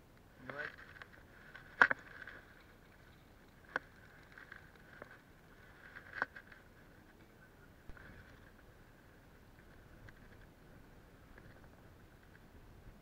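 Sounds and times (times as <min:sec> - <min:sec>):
faint ticks: 0:00.0 - 0:13.0.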